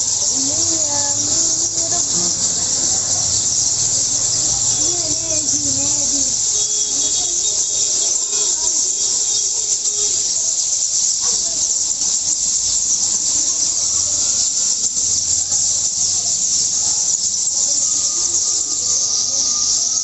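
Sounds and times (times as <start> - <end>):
sparrows chirping: 0.0 - 20.0.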